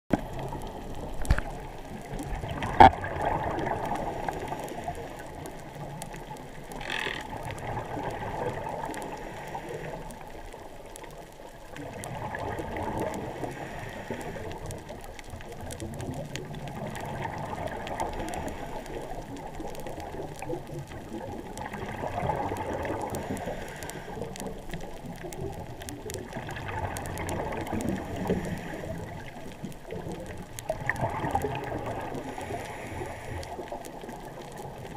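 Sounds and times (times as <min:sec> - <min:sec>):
underwater water noise: 0:00.1 - 0:34.9.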